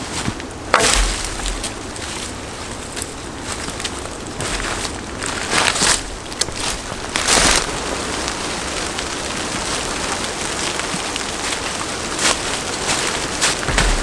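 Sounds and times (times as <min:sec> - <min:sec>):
steady rain falling: 0:00.1 - 0:14.0.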